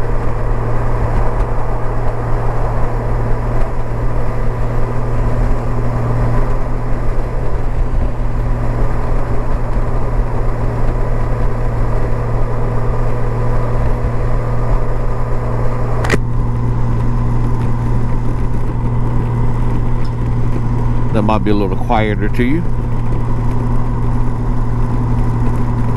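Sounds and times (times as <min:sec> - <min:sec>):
motorcycle engine drone: 0:00.0 - 0:25.9
wind and road noise: 0:00.0 - 0:25.9.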